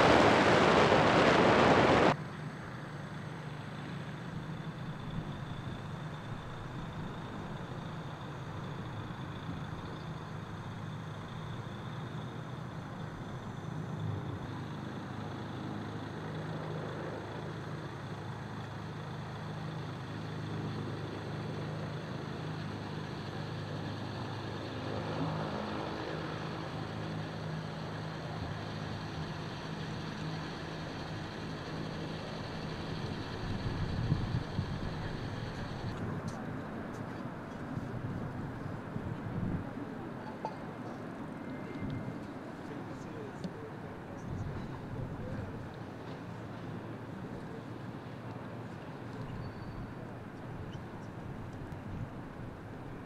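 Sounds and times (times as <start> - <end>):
bus engine low hum: 0.0 - 53.0.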